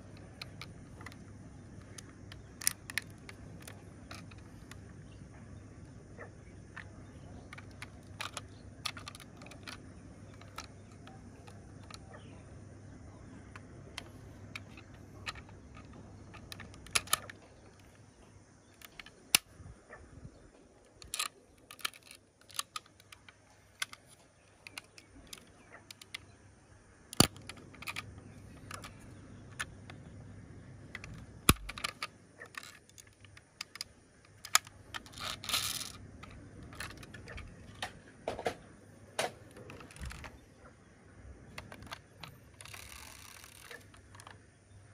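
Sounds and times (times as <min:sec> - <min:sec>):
toy parts clicking when handled: 0:00.0 - 0:05.1, 0:06.6 - 0:12.4, 0:13.4 - 0:19.5, 0:20.8 - 0:26.4, 0:27.1 - 0:30.1, 0:30.9 - 0:38.0, 0:39.2 - 0:40.4, 0:41.5 - 0:44.4.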